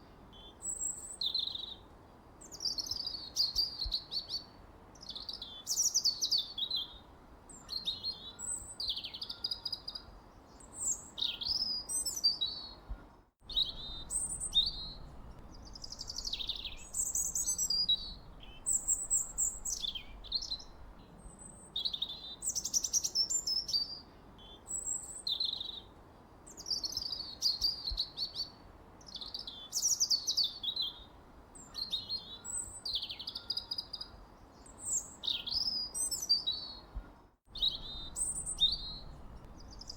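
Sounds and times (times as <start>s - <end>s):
faint steady hiss: 0.0s - 39.9s
birdsong chirps and whistles: 0.4s - 1.8s, 2.4s - 12.9s, 13.5s - 25.9s, 26.5s - 39.9s.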